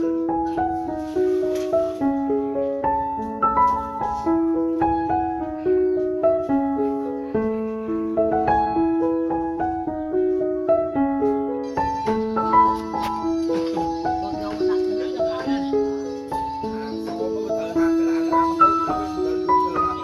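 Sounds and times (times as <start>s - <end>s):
piano single notes: 0.0s - 20.0s.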